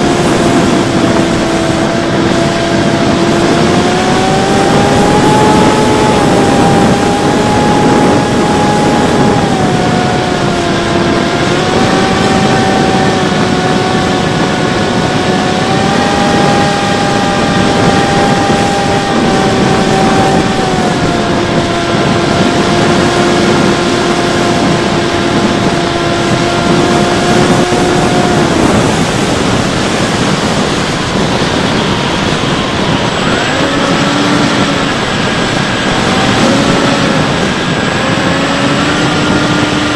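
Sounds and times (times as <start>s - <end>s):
electric motor and propeller whining: 0.0s - 39.9s
wind rushing over microphone: 0.0s - 39.9s.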